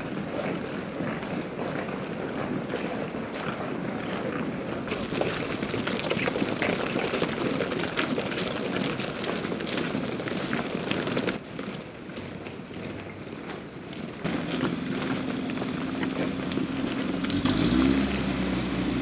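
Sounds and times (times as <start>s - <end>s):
crowd footsteps on rubble: 0.0s - 17.4s.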